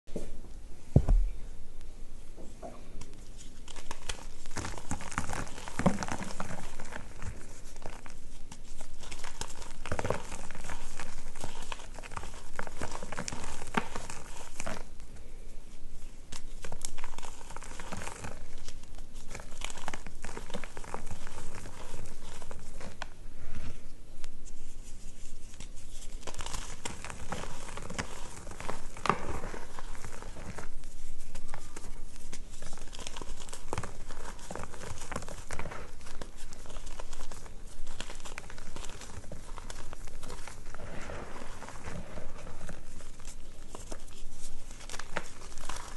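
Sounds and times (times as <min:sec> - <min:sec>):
chalk crunching and crumbling: 0:03.0 - 0:15.0, 0:15.8 - 0:23.8, 0:24.4 - 0:45.9.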